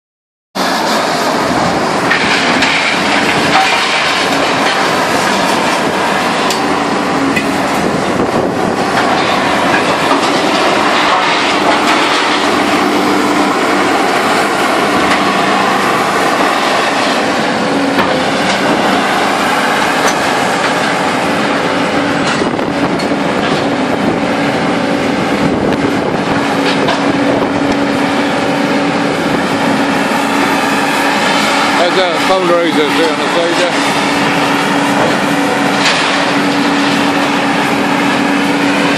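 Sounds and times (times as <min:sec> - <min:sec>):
heavy machinery noise: 0:00.6 - 0:38.9
steady hum: 0:00.6 - 0:38.9.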